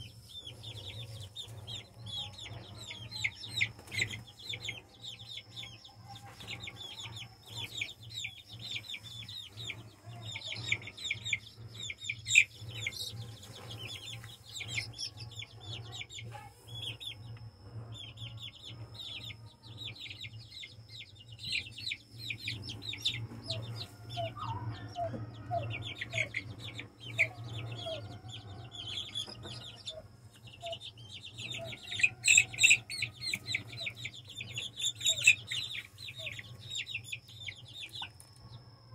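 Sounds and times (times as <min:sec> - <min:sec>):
chicks peeping: 0:00.0 - 0:38.7
steady low hum: 0:00.0 - 0:38.9.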